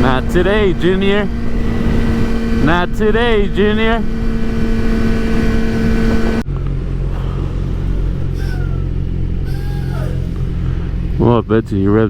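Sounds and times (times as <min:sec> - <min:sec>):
wind noise: 0:00.0 - 0:11.2
motorcycle engine running: 0:00.0 - 0:12.0.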